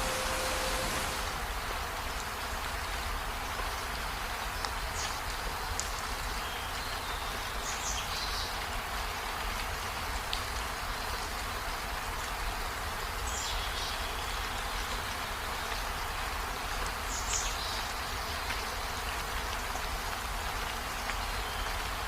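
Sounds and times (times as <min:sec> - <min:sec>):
rain on foliage and window: 0:00.0 - 0:22.0.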